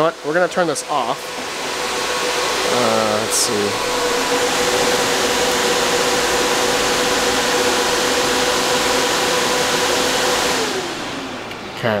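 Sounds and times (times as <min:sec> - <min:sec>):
cooling fans rushing with whine: 0:00.0 - 0:12.0.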